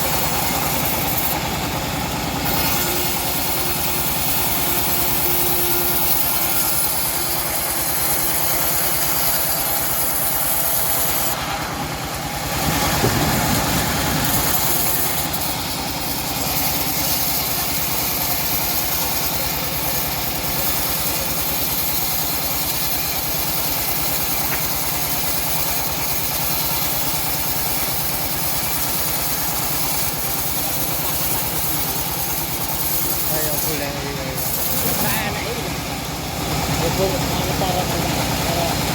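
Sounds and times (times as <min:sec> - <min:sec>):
engine-driven bandsaw running: 0:00.0 - 0:38.9.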